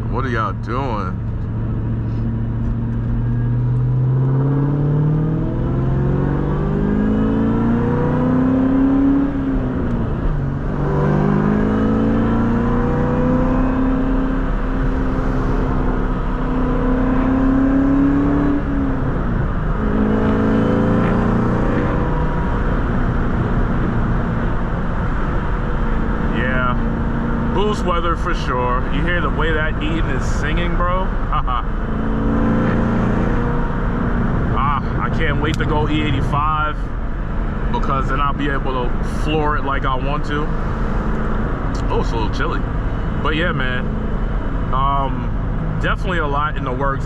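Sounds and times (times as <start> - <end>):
car engine accelerating through gears: 1.2 - 47.0.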